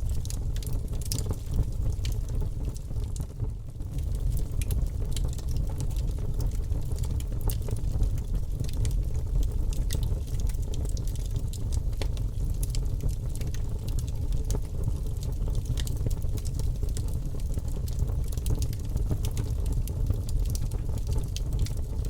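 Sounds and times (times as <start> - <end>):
bonfire flames rumbling: 0.0 - 22.0
burning wood crackling and popping: 0.0 - 22.0.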